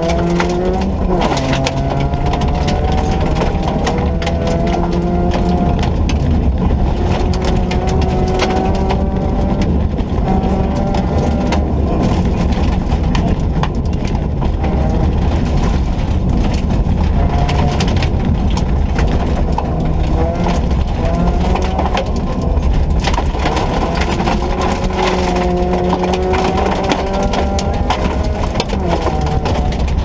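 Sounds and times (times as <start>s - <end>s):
car engine accelerating hard: 0.0s - 30.0s
car knocking and rattling: 0.0s - 30.0s.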